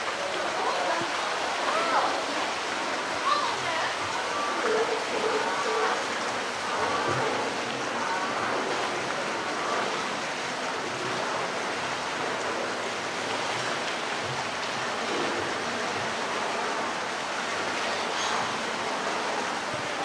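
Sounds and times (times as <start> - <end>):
water flowing: 0.0 - 20.0.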